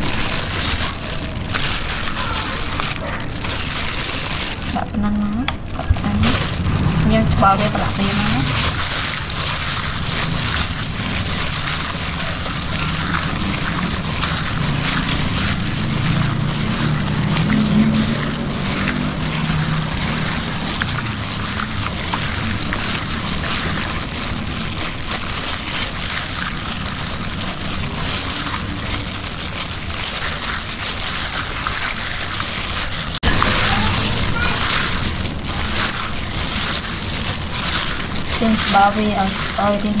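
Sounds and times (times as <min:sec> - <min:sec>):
low background hum: 0:00.0 - 0:40.0
plastic bag crackling: 0:00.0 - 0:40.0
wet squelching and sloshing: 0:00.0 - 0:40.0.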